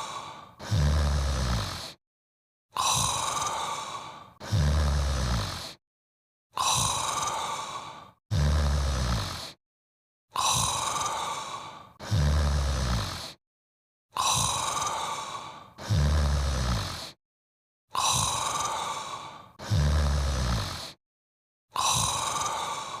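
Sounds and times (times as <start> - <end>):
low snore: 0.0 - 2.0, 2.8 - 5.8, 6.6 - 9.6, 10.4 - 13.4, 14.2 - 17.2, 18.0 - 21.0, 21.8 - 23.0.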